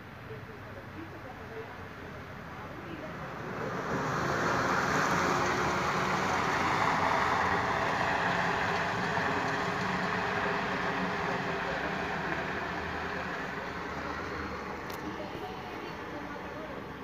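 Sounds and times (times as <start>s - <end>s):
snowplough truck driving past: 2.5s - 17.0s.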